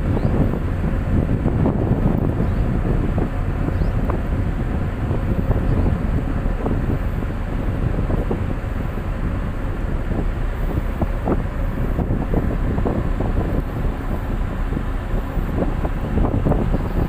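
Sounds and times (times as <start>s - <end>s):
boat engine droning: 0.0s - 17.0s
wind buffeting microphone: 0.0s - 17.0s.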